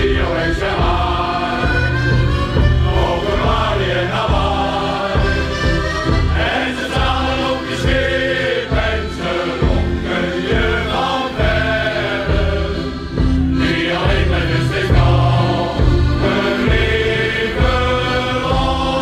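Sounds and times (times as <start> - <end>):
accordions: 0.0 - 19.0
male choir singing: 0.0 - 19.0.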